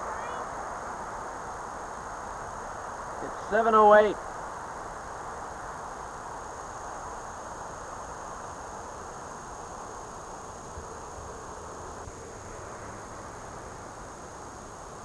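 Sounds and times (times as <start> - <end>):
outdoor background noise: 0.0 - 15.0
thin high steady tone: 0.0 - 15.0.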